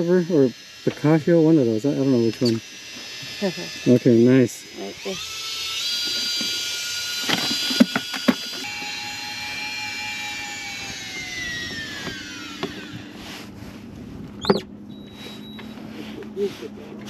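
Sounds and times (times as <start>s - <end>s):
fishing reel motor whine: 0.0s - 16.3s.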